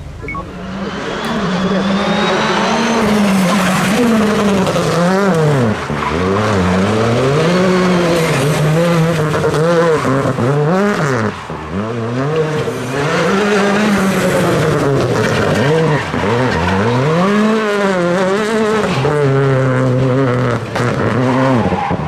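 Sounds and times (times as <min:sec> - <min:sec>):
rally car engine revving: 0:00.0 - 0:22.0
tyres skidding on asphalt: 0:00.1 - 0:22.0.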